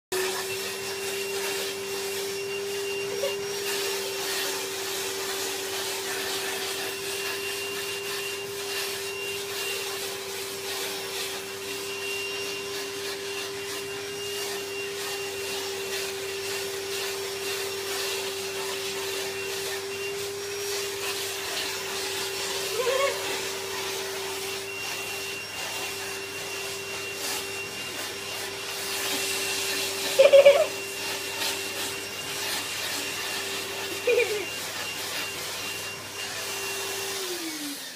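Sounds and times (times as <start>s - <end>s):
vacuum cleaner running: 0.1s - 37.9s.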